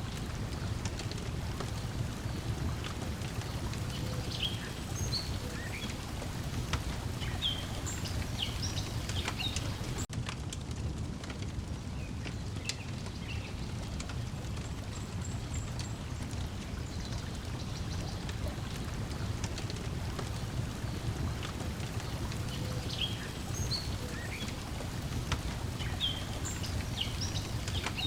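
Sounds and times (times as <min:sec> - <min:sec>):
lake water lapping at shore: 0:00.0 - 0:10.1, 0:14.8 - 0:28.0
wood fire crackling and popping: 0:00.0 - 0:28.0.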